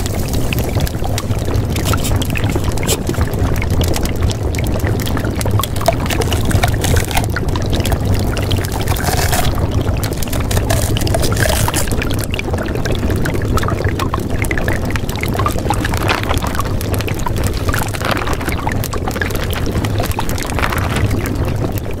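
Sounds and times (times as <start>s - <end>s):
scattered crackles and clicks: 0.0s - 22.0s.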